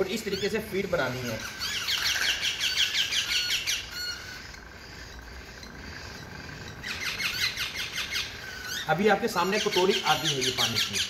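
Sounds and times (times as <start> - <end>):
chicks squawking chirps: 0.0 - 11.0.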